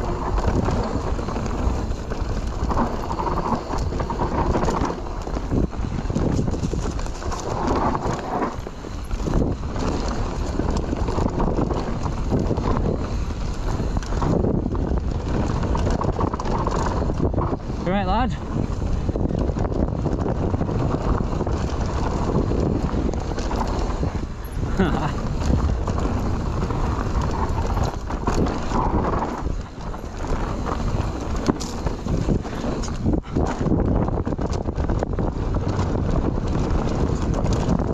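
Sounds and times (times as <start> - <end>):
bike rattling over rough ground: 0.0 - 37.9
wind on microphone: 0.0 - 37.9.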